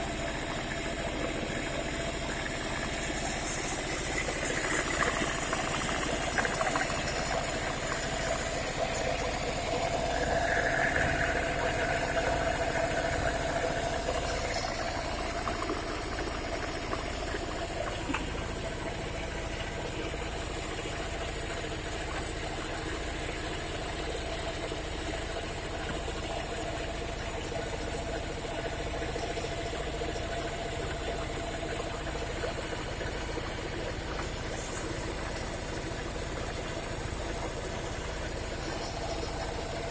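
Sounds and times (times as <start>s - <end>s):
corn grinding mill running: 0.0s - 39.9s.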